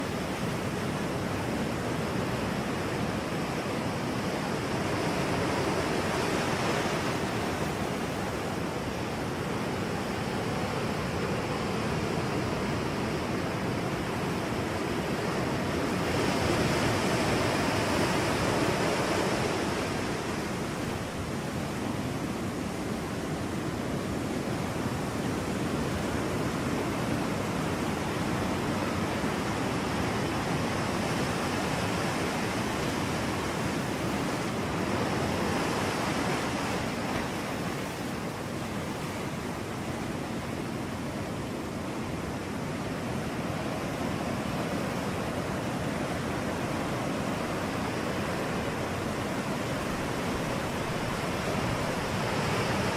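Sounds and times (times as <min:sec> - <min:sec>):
ocean waves washing on shore: 0:00.0 - 0:52.9.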